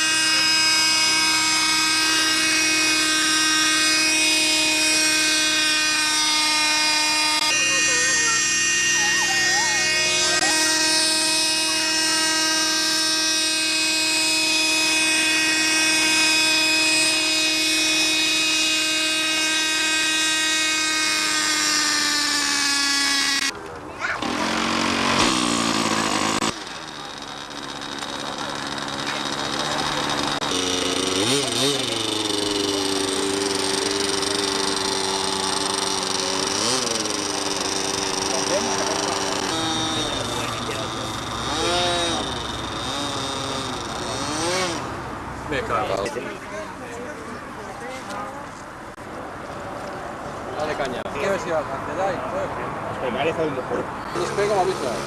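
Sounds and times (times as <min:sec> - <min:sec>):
model aircraft engine whining: 0:00.0 - 0:46.4, 0:53.2 - 0:55.0.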